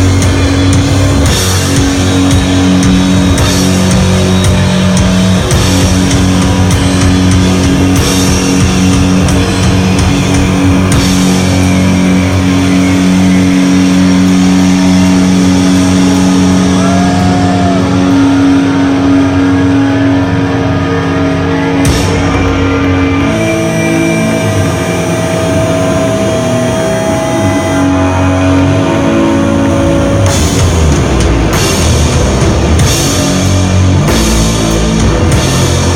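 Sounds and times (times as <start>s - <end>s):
distorted guitars and bass droning: 0.0s - 35.9s.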